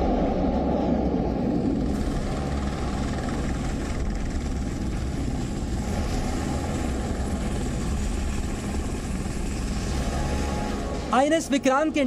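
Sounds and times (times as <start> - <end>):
helicopters flying past: 0.0 - 12.0.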